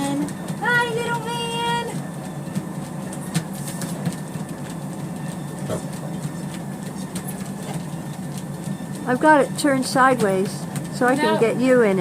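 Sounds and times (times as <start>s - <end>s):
treadmill humming: 0.0s - 12.0s.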